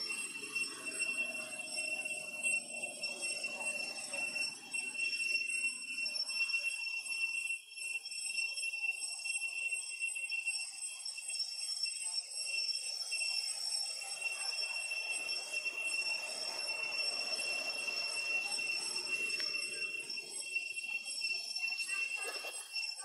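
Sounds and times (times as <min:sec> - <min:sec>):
insects high-pitched ringing drone: 0:00.0 - 0:23.0.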